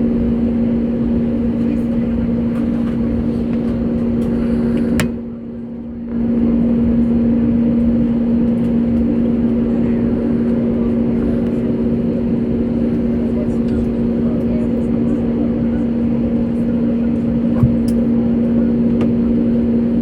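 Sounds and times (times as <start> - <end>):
aircraft cabin drone: 0.0 - 20.0.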